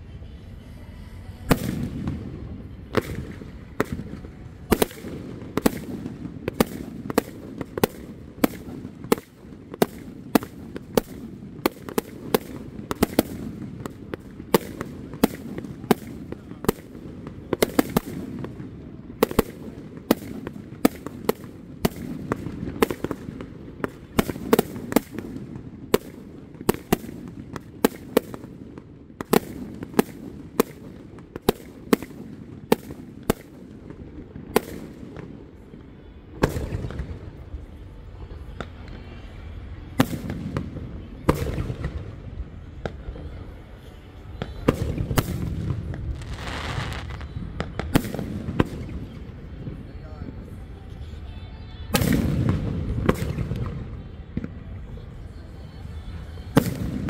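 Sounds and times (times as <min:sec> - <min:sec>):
continuous low rumble: 0:00.0 - 0:57.0.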